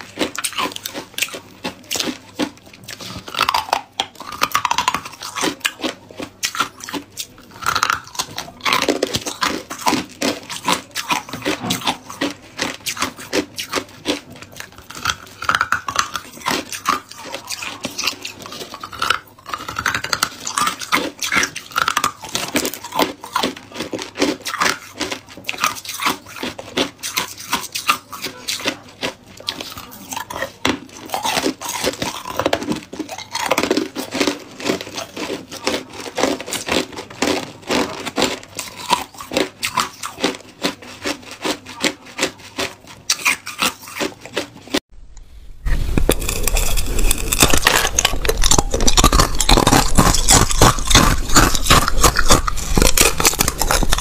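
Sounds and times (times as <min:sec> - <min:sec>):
ice being chewed: 0:00.0 - 0:44.9, 0:45.6 - 0:54.0.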